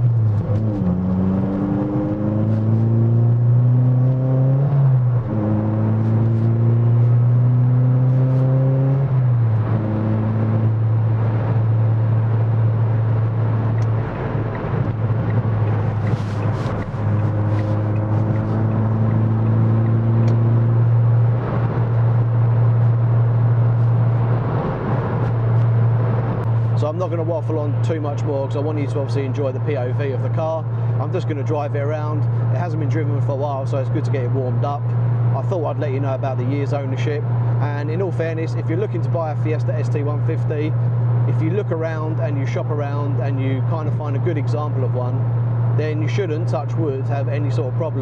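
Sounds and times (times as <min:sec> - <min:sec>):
car engine droning from inside cabin: 0:00.0 - 0:48.0.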